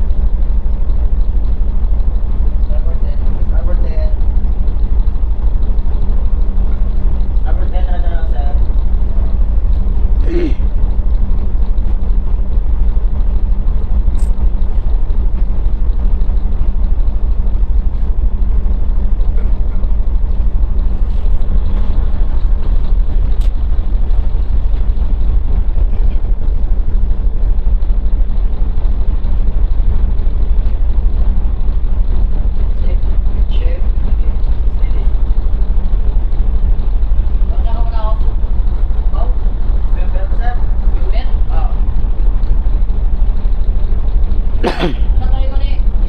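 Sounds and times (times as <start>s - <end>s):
ship engine droning: 0.0s - 46.0s.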